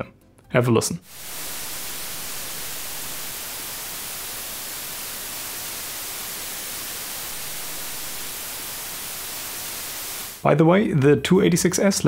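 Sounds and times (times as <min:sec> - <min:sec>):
microphone preamp hiss: 0:01.0 - 0:12.0.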